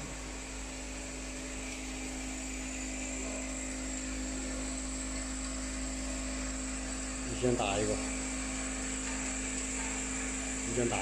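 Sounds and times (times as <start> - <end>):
bowl feeder humming: 0.0 - 11.0.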